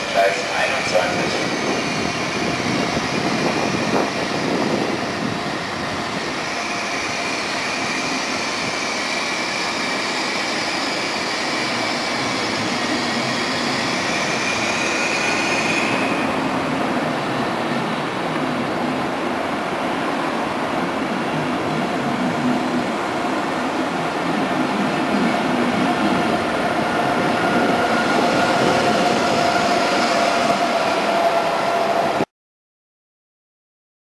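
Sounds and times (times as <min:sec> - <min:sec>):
train wheels rumbling on rail: 0:00.0 - 0:32.2.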